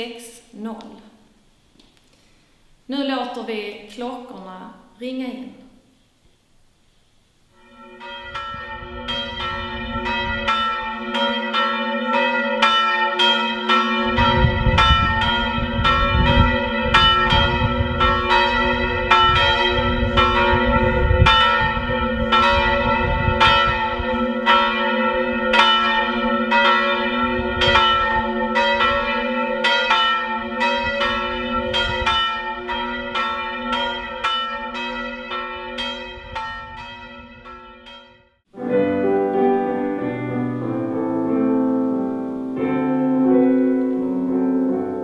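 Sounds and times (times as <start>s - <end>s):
church bells ringing: 7.5s - 45.0s.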